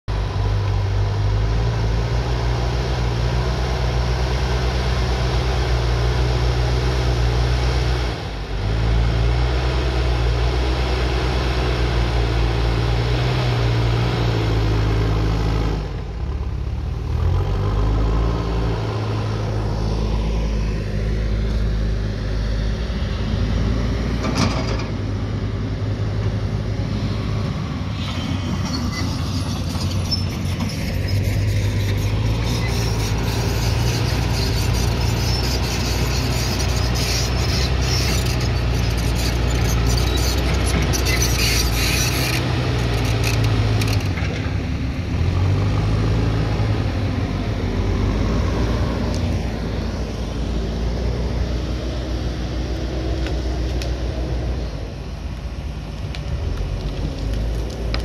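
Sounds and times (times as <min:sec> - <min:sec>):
diesel engine under load: 0:00.1 - 0:58.0.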